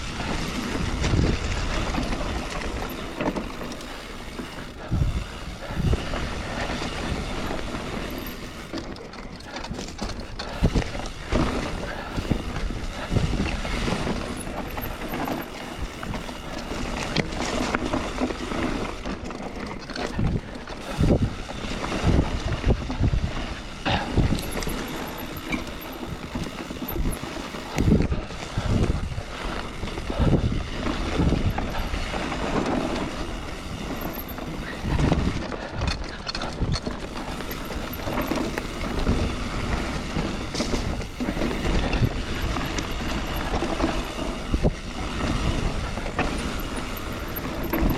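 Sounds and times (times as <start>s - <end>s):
bike knocking and rattling: 0.0s - 47.9s
bike tyre rumble: 0.0s - 47.9s
wind buffeting microphone: 0.0s - 47.9s.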